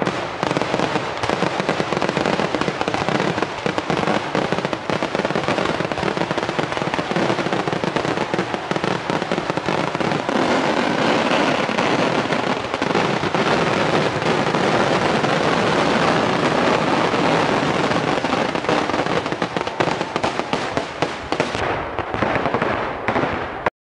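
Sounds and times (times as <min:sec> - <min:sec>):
fireworks bangs and crackling: 0:00.0 - 0:23.7.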